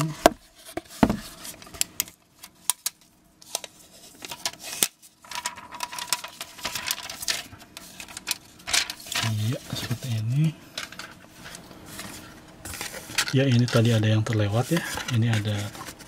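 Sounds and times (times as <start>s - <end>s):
plastic film crinkling: 2.8s - 16.0s.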